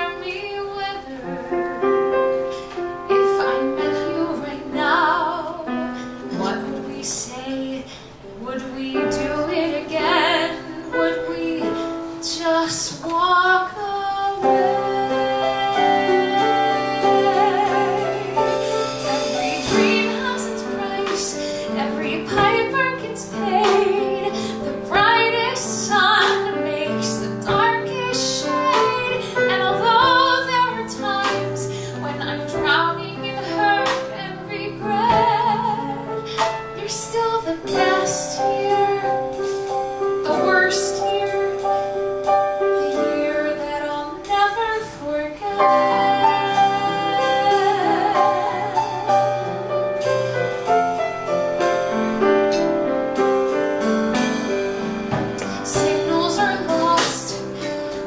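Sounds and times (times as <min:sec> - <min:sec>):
woman singing: 0:00.0 - 0:01.8, 0:02.6 - 0:49.6, 0:55.4 - 0:58.0
piano accompaniment: 0:00.0 - 0:58.0.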